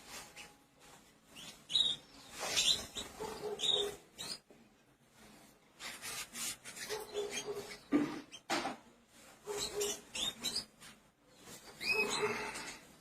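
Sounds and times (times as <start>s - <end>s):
small birds chirping: 0.1s - 4.8s, 5.8s - 8.5s, 9.2s - 13.0s.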